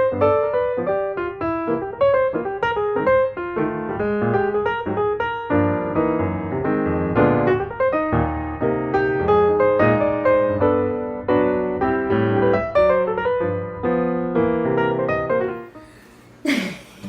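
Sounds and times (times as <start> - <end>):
piano music: 0.0 - 16.1.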